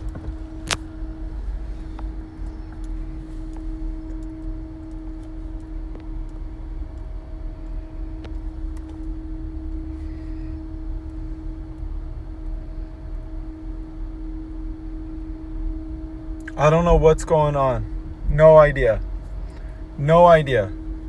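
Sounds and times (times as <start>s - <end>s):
constant pitched hum: 0.0s - 21.0s
street traffic rumble: 0.0s - 21.0s.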